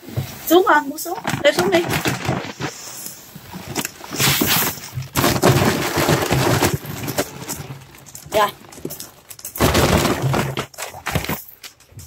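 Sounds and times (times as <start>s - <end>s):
paper sack rustling: 1.0s - 12.0s.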